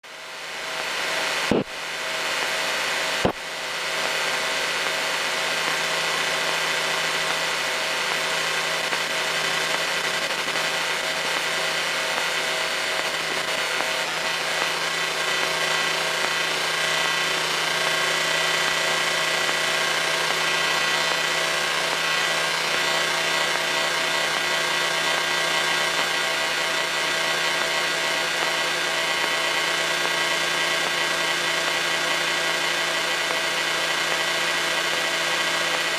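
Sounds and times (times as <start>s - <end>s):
airplane engine and propeller droning: 0.0s - 35.9s.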